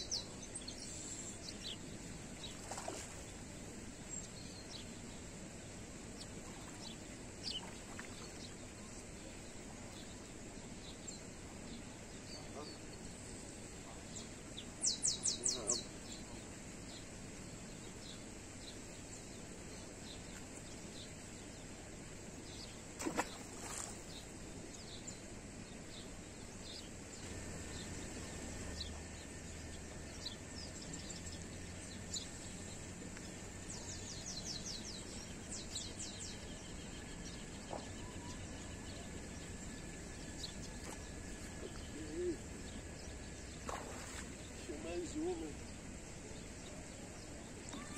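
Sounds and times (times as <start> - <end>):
faint low hum: 0.0 - 47.9
steady background hiss: 0.0 - 47.9.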